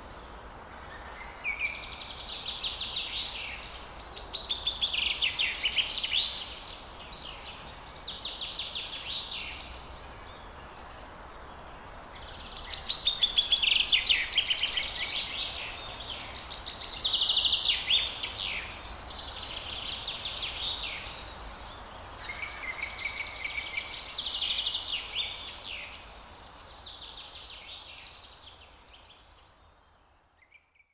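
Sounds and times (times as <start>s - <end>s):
steady background hiss: 0.0s - 30.9s.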